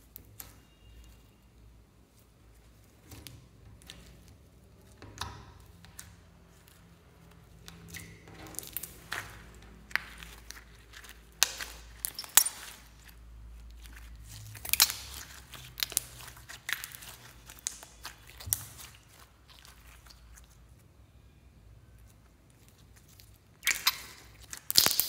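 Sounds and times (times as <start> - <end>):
slime crackling and popping: 2.6 - 20.8, 22.0 - 25.0.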